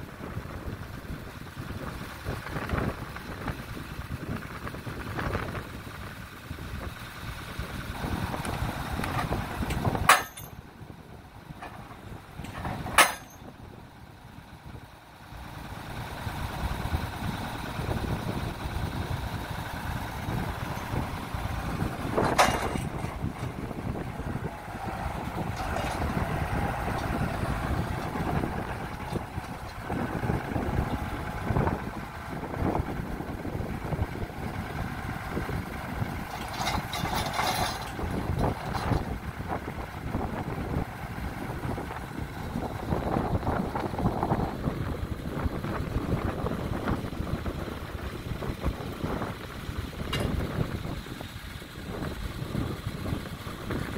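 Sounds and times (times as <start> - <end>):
tracked carrier engine running: 0.0 - 53.9.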